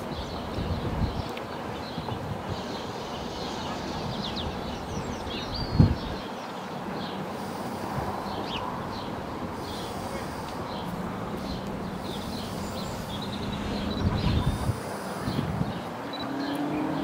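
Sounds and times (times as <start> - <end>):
birds chirping: 0.0 - 17.0
steady background noise: 0.0 - 17.0.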